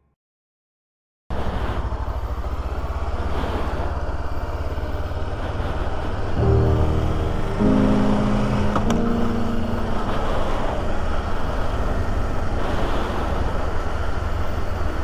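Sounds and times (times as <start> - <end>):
road noise: 1.3 - 15.0.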